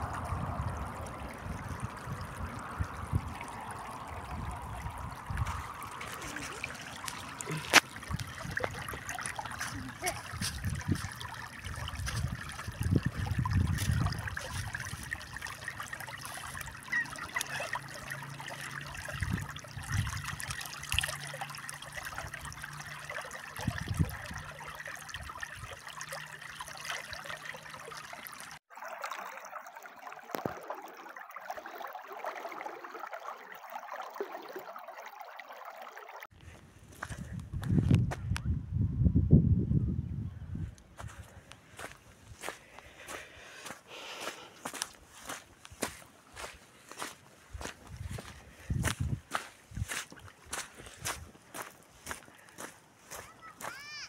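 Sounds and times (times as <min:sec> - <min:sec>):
stream trickling over stones: 0:00.0 - 0:38.0, 0:41.0 - 0:54.0.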